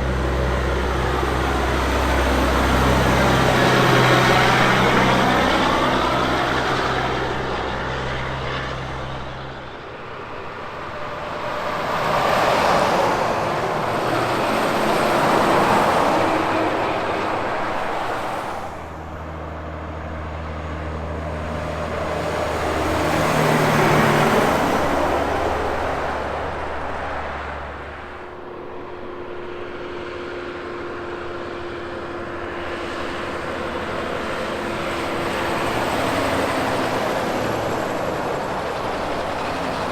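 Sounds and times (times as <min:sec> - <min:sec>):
low engine drone: 0:00.0 - 0:39.9
vehicles passing on highway: 0:00.0 - 0:39.9.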